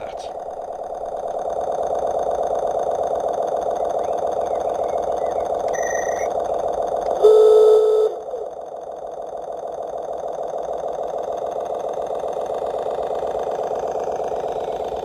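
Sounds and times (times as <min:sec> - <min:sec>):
model train diesel engine sound: 0:00.0 - 0:15.0.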